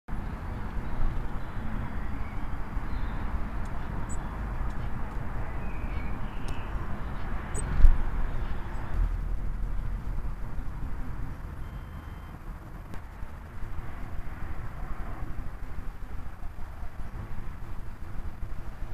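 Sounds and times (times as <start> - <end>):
outdoor garden background noise: 0.1 - 18.9.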